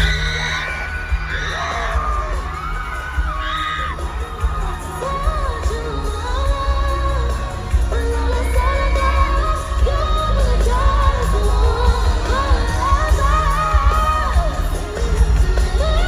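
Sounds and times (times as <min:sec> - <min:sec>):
booming bass: 0:00.0 - 0:16.0
faint crowd noise: 0:00.0 - 0:16.0
woman singing: 0:00.0 - 0:16.0.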